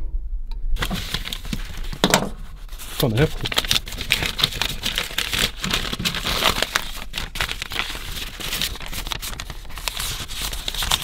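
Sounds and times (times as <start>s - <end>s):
paper rustling and crinkling: 0.8s - 11.0s.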